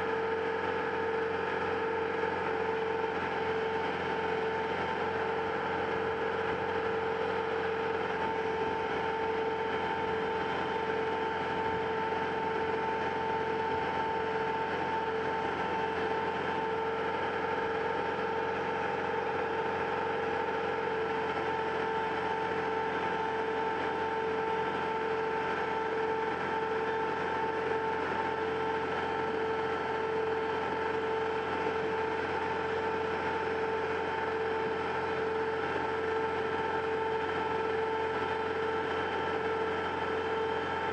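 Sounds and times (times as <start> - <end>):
engine and hydraulic pump whining: 0.0 - 40.9.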